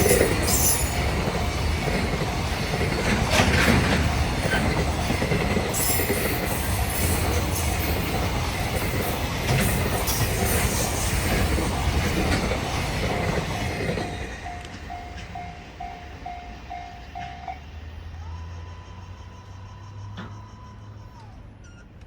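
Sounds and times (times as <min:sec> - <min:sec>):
train rail noise: 0:00.0 - 0:22.0.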